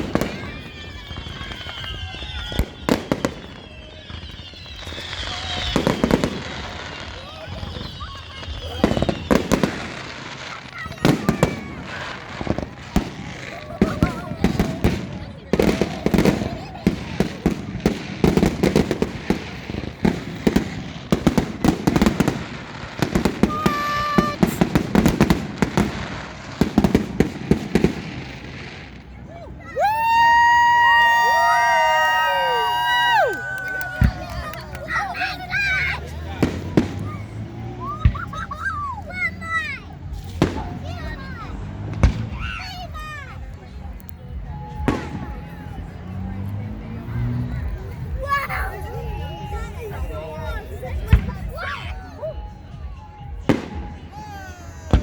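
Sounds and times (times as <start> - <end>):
fireworks falling whistles: 0.0 - 41.2, 41.9 - 45.9, 47.6 - 55.0
fireworks bangs: 0.0 - 55.0.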